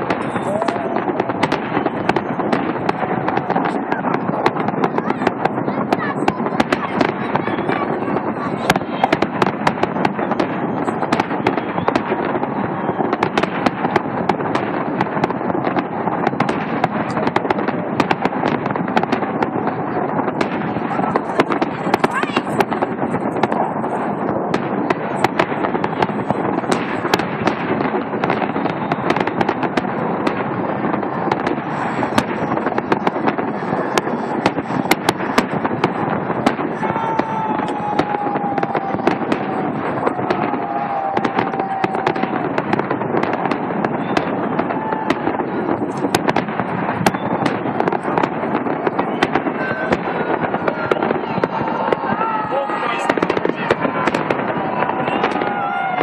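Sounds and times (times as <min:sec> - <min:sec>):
fireworks crackling and popping: 0:00.0 - 0:56.0
fireworks sharp bangs: 0:00.0 - 0:56.0
steady rushing noise: 0:00.0 - 0:56.0.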